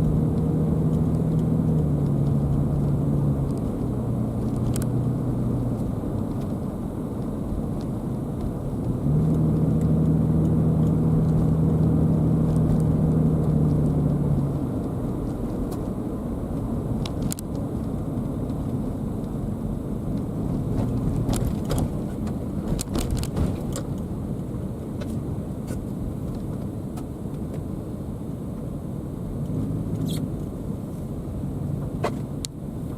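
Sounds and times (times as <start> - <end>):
car tyre and engine rumble: 0.0 - 32.9.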